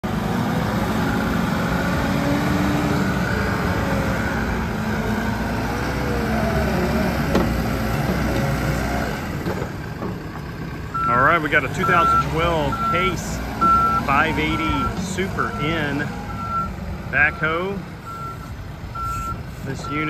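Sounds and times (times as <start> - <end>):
backhoe diesel engine running: 0.0 - 20.0.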